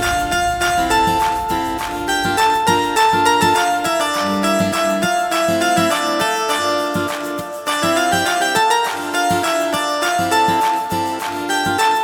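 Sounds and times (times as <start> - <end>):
plucked string music: 0.0 - 12.0.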